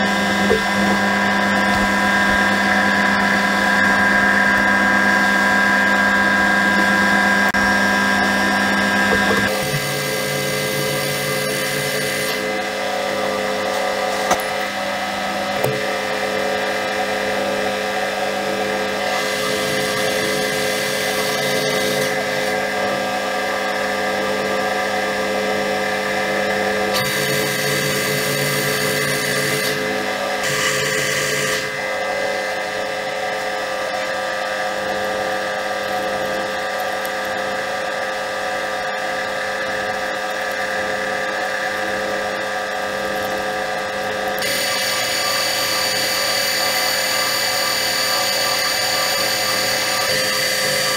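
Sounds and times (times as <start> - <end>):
metal cutting noise: 0.0 - 24.4, 26.4 - 50.9
lathe drive whine: 0.0 - 50.9.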